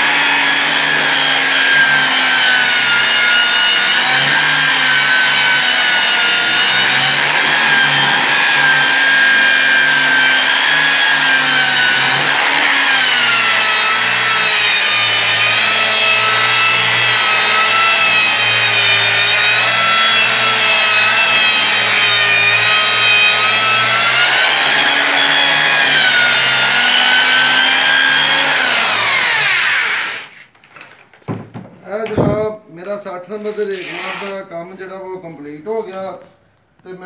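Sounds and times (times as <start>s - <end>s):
angle grinder sanding wood: 0.0s - 30.5s, 33.4s - 34.5s.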